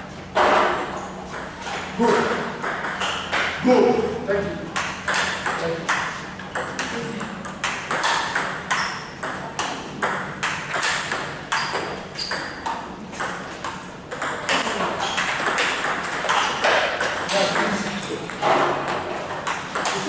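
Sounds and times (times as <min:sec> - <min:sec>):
distant table tennis clicks: 0:00.4 - 0:03.6, 0:04.7 - 0:20.0
ping pong ball clicking off bats: 0:00.4 - 0:03.6, 0:04.7 - 0:20.0.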